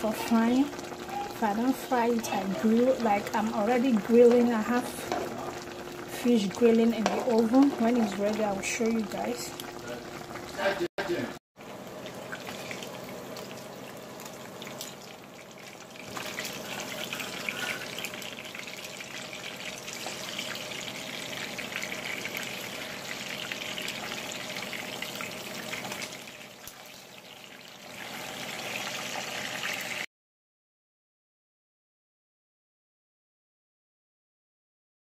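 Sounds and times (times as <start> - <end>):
fish sizzling in hot oil: 0.0 - 10.8, 11.6 - 30.1.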